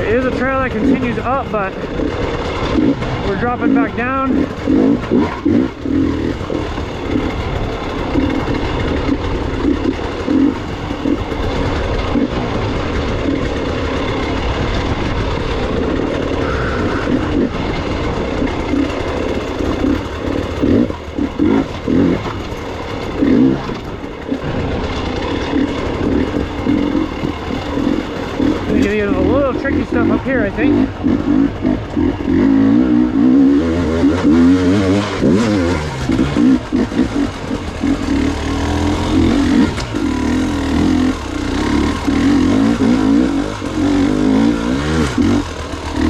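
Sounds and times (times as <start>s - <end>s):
two-stroke motorcycle engine: 0.0s - 46.0s.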